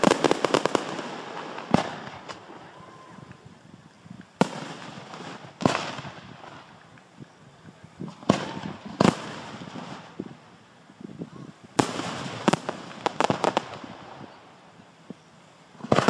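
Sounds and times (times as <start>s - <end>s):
fireworks booming: 0.0s - 16.0s.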